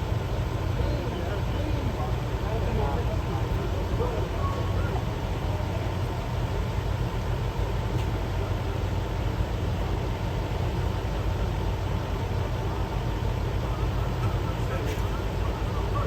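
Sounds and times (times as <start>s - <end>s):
idling vehicle engines and traffic: 0.0s - 16.0s.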